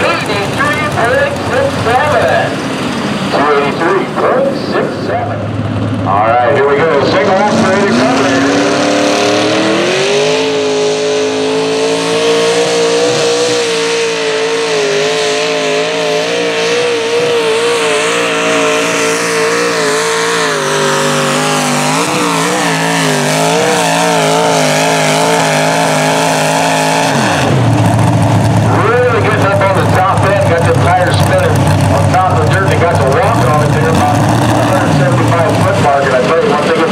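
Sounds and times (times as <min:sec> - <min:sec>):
pulling tractor engine at full throttle: 0:00.0 - 0:36.9.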